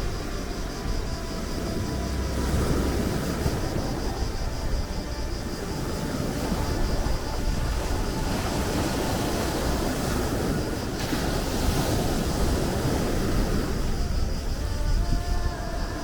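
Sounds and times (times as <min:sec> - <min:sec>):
sea waves washing onto shore: 0:00.0 - 0:16.0.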